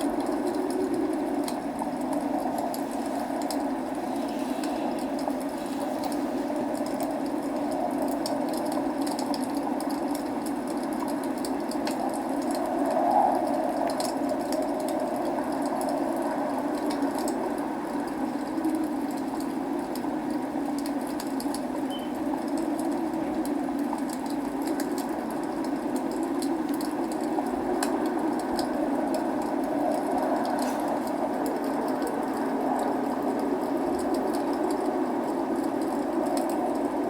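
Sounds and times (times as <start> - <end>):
logs crackling in a fireplace: 0.0 - 37.0
steady rain: 0.0 - 37.0.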